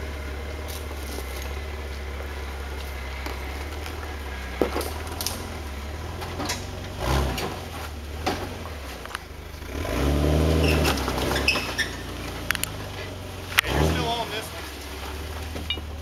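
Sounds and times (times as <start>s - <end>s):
off-road vehicle engine running low: 0.0s - 16.0s.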